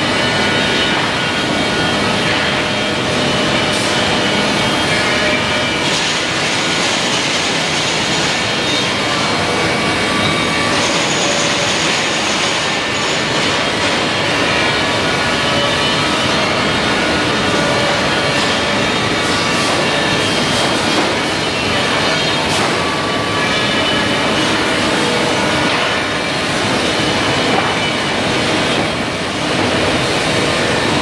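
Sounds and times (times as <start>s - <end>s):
industrial machinery hiss and hum: 0.0s - 31.0s.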